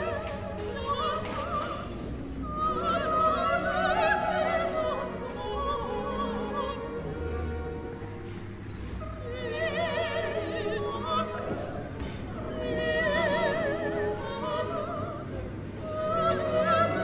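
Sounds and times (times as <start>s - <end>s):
operatic singing: 0.0s - 17.0s
orchestral accompaniment: 0.0s - 17.0s.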